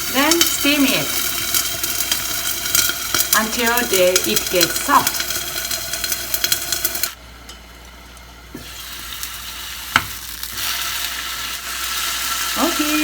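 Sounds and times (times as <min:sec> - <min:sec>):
food sizzling in oil: 0:00.0 - 0:07.2, 0:08.5 - 0:13.0.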